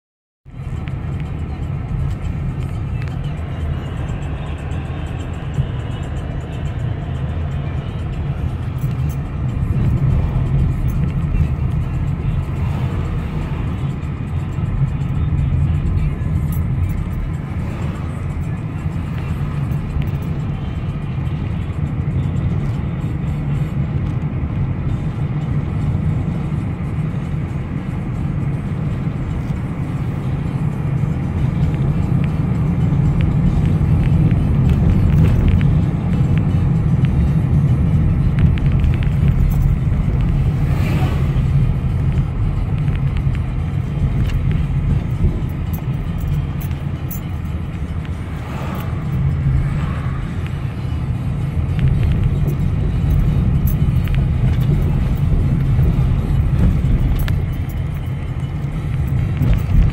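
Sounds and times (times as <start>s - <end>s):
car interior road rumble: 0.5s - 59.9s.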